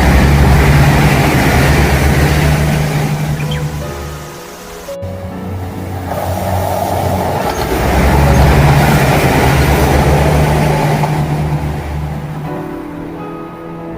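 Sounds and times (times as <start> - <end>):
low steady drone: 0.0 - 13.9
train passing: 0.0 - 13.9.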